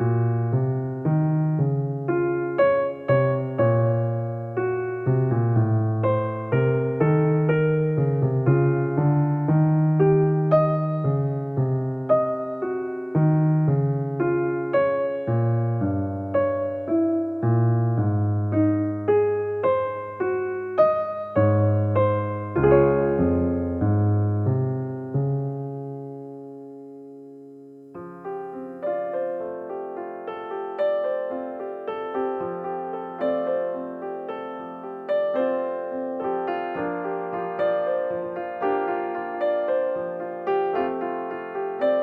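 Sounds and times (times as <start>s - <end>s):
soft piano music: 0.0s - 42.0s.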